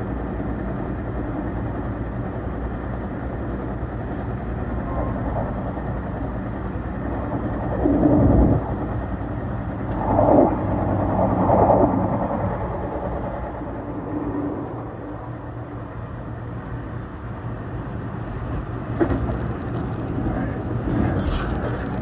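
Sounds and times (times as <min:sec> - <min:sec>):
faint hum: 0:00.0 - 0:22.0
train rumbling: 0:00.0 - 0:22.0.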